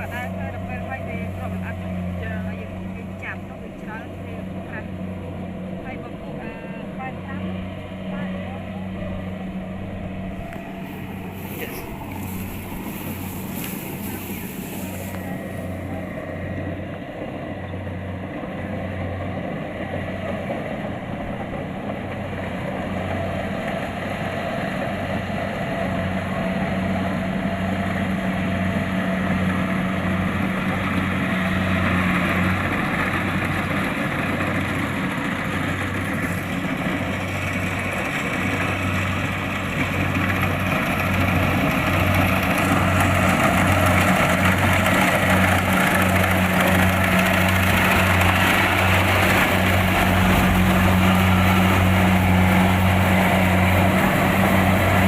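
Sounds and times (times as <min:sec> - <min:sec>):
combine harvester engine and threshing: 0:00.0 - 0:55.0.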